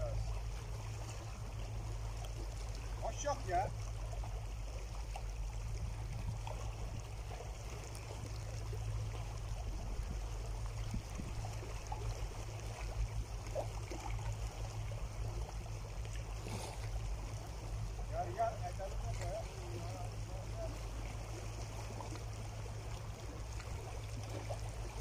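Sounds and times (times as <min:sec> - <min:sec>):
constant low rumble: 0:00.0 - 0:25.0
small waves lapping on rocks: 0:00.0 - 0:25.0.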